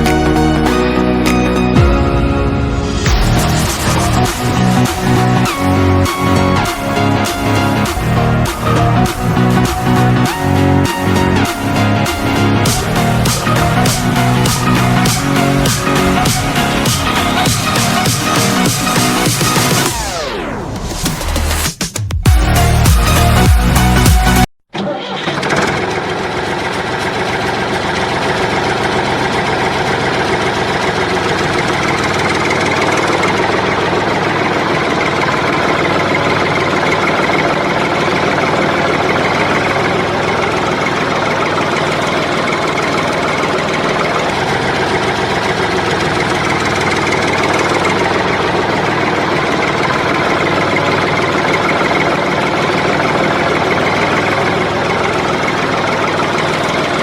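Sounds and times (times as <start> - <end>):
tractor engine idling: 0.0 - 19.8, 24.8 - 57.0.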